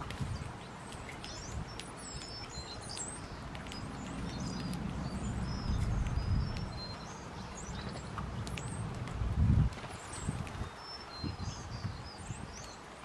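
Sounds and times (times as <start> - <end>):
birds chirping and whistling: 0.0 - 12.9.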